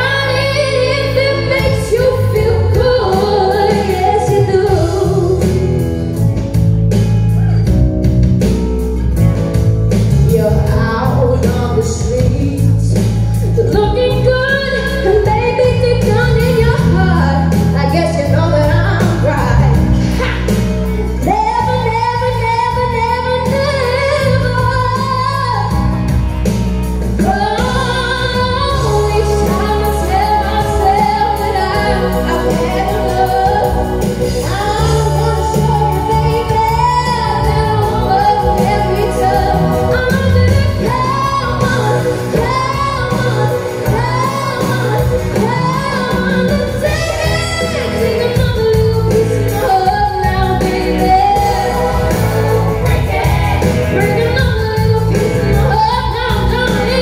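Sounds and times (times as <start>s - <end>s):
woman singing into microphone: 0.0s - 6.6s, 10.0s - 57.0s
instrumental backing track: 0.0s - 57.0s.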